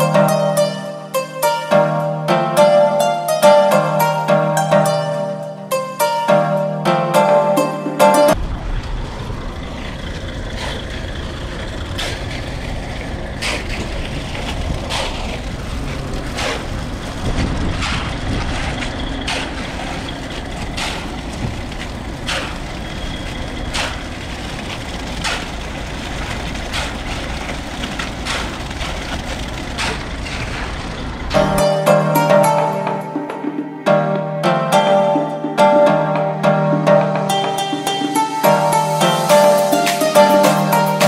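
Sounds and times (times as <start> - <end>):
heavy machinery rumbling: 8.0 - 41.0.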